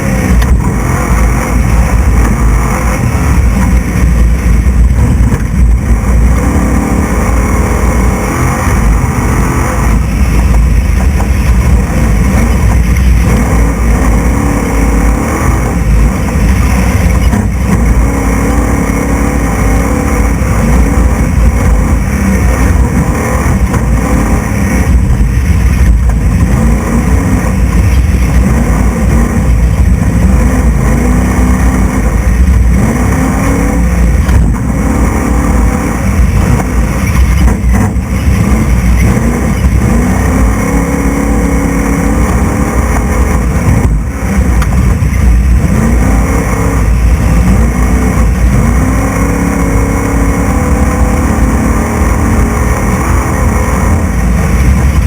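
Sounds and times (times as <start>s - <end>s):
race truck engine revving: 0.0s - 55.0s.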